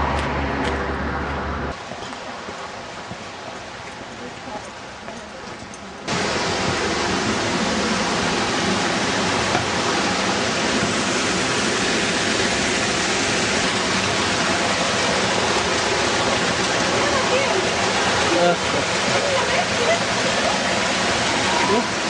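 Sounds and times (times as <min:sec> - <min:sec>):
waterfall rushing: 0:01.7 - 0:22.0.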